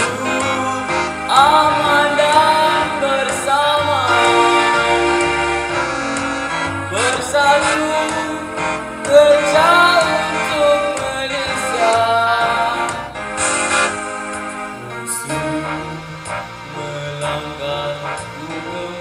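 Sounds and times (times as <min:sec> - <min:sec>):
man singing ballad into microphone: 0:00.0 - 0:05.4, 0:06.8 - 0:13.2, 0:14.6 - 0:19.0
instrumental backing track: 0:00.0 - 0:19.0.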